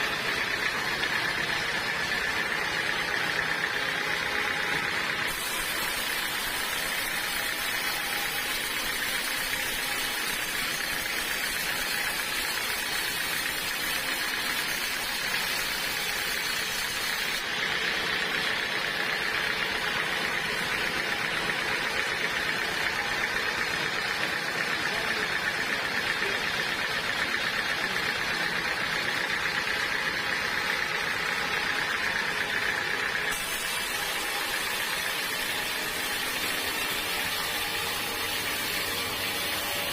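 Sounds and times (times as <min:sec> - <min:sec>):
bandsaw sawmill sawing wood: 0:00.0 - 0:39.9.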